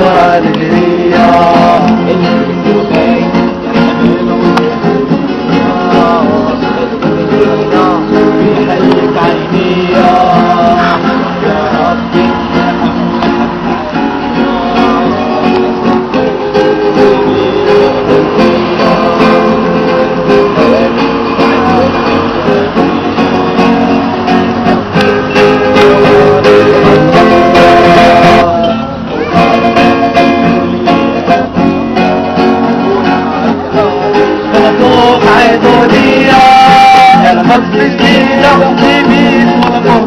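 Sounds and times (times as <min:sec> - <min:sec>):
plucked and strummed guitar: 0:00.0 - 0:40.0.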